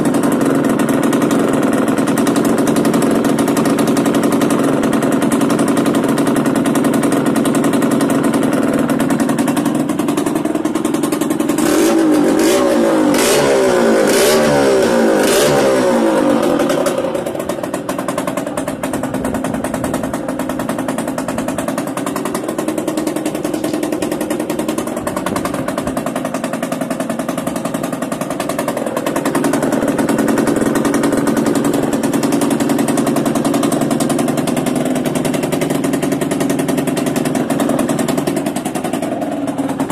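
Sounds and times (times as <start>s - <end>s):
exhaust cracks: 0.0s - 39.9s
motorcycle engine revving: 0.0s - 39.9s.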